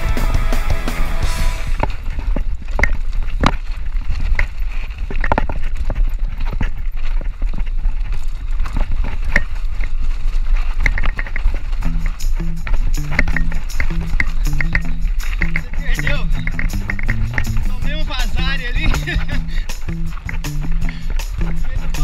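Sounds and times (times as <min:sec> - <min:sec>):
wind rumble on microphone: 0:01.4 - 0:22.0
mountain bike rattling and knocking: 0:01.8 - 0:22.0.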